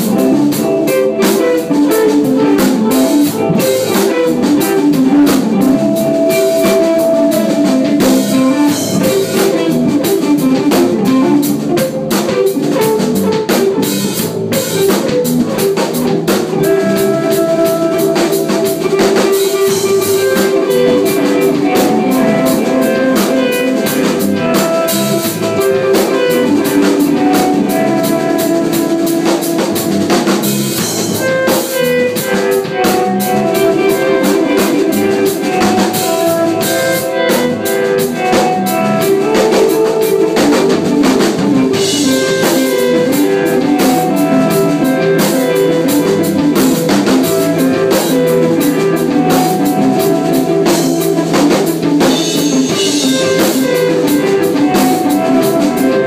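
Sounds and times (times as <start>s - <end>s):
drum kit with cymbals: 0.0s - 56.0s
electric guitars: 0.0s - 56.0s.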